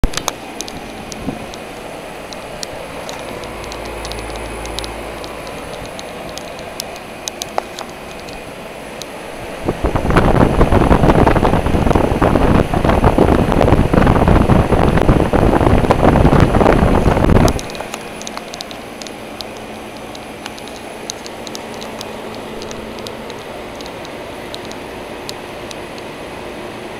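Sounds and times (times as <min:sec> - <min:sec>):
air rush on microphone: 0:00.0 - 0:26.6
air conditioner fan humming: 0:00.0 - 0:26.9.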